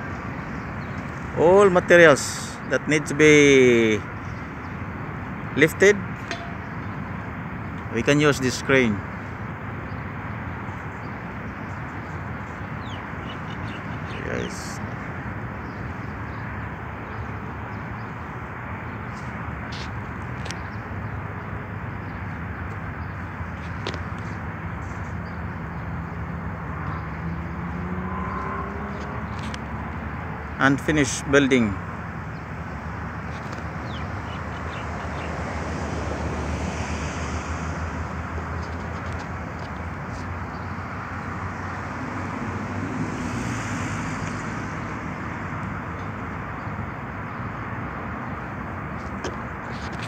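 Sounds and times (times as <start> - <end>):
rushing outdoor background noise: 0.0 - 50.0.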